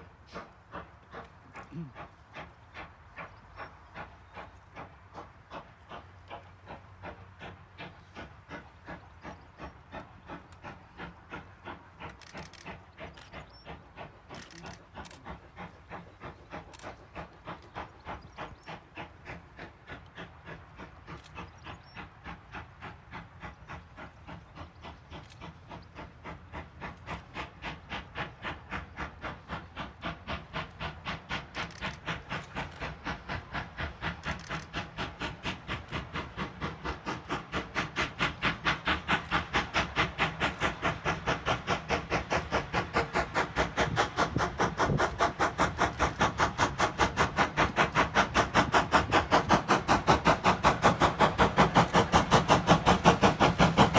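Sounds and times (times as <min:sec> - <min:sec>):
steam locomotive exhaust beats: 0:00.0 - 0:53.9.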